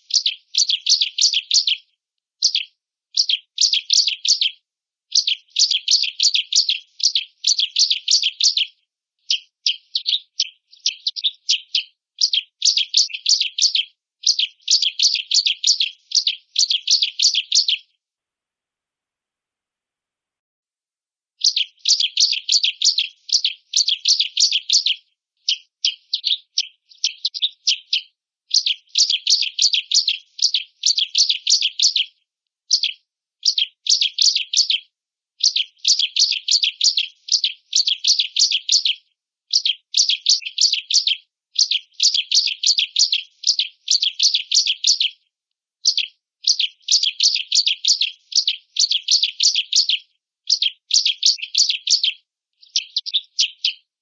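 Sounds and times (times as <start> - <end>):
bird singing trilled phrases: 0.0 - 17.9, 21.4 - 45.2, 45.8 - 54.0.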